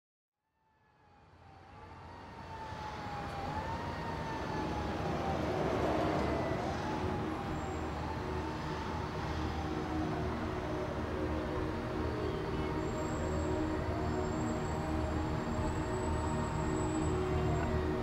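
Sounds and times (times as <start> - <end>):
traffic rumble: 2.6 - 18.0.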